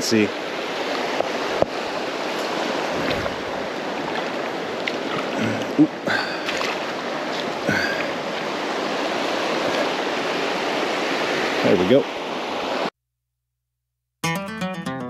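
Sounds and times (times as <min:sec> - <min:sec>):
river rapids rushing: 0:00.0 - 0:12.9.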